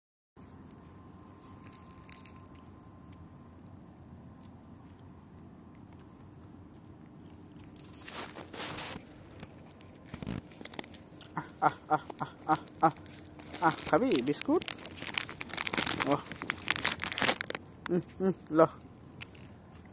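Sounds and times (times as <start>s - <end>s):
dog chewing biscuits: 0.4s - 17.9s.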